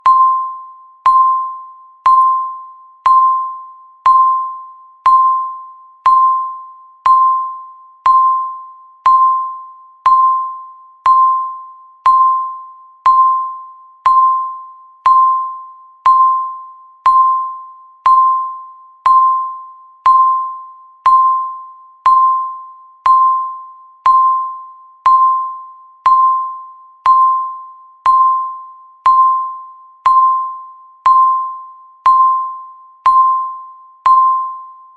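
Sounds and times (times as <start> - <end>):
timer beeping: 0.0 - 34.9.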